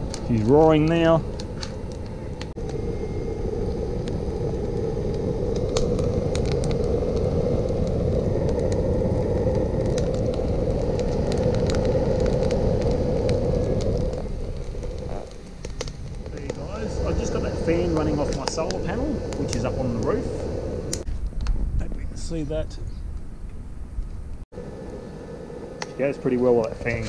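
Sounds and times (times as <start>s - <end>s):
burning wood crackling: 0.0s - 27.0s
stove fire roaring: 0.0s - 27.0s.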